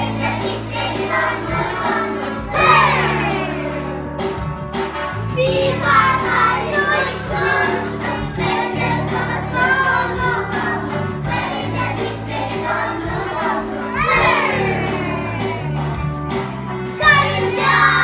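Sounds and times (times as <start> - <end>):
voices singing: 0.0 - 18.0.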